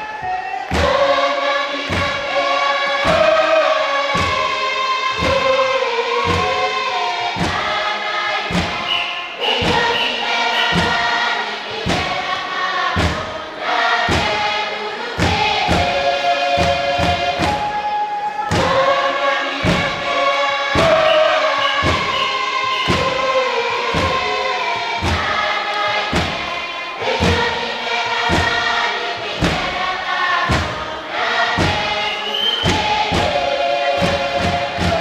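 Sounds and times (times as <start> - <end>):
chorus singing in harmony: 0.0 - 35.0
steady thudding beat: 0.2 - 35.0.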